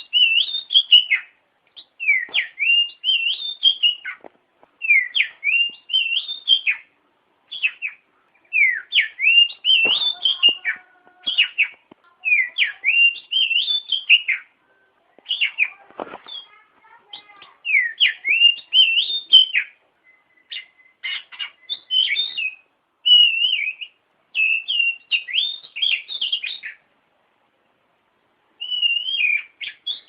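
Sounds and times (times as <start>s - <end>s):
bird whistling song: 0.0s - 4.2s, 4.8s - 6.9s, 7.5s - 14.5s, 15.2s - 26.8s, 28.6s - 30.0s.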